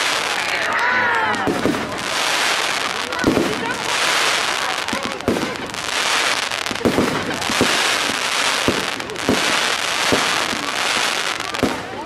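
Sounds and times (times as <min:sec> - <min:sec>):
fireworks sparks crackling: 0:00.0 - 0:12.0.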